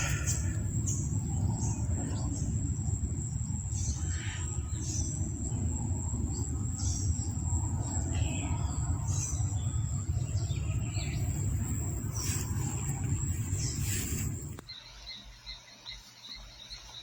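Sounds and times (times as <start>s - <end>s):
low rumble: 0.0s - 14.7s.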